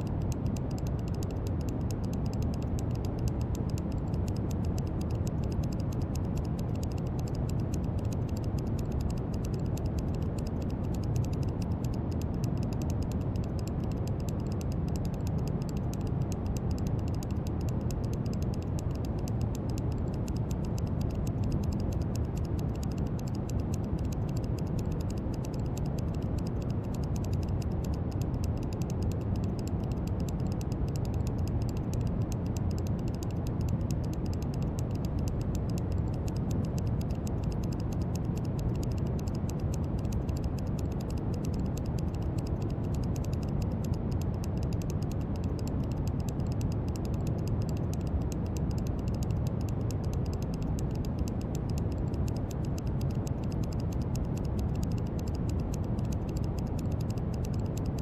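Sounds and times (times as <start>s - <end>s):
faint fast crackle: 0.0s - 58.0s.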